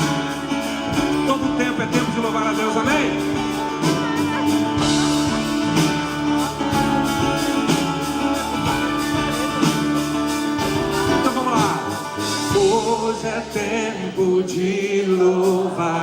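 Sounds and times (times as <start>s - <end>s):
gospel band instrumental: 0.0s - 16.0s.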